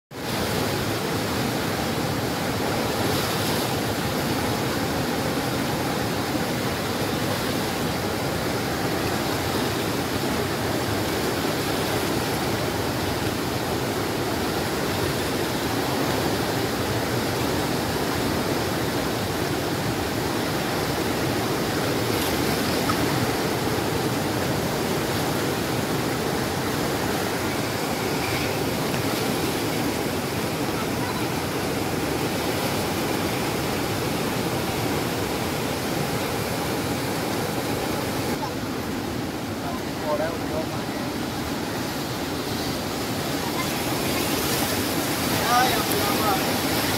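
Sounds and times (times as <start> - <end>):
floodwater rushing: 0.1 - 46.9.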